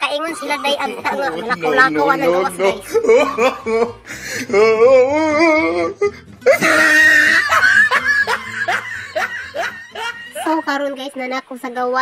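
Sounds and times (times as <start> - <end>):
person laughing: 0.4 - 10.6.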